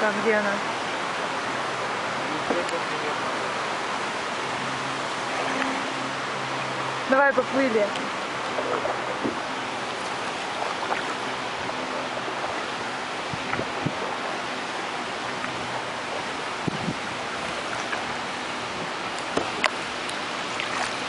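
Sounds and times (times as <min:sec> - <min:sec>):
water splashing around a boat: 0:00.0 - 0:21.0.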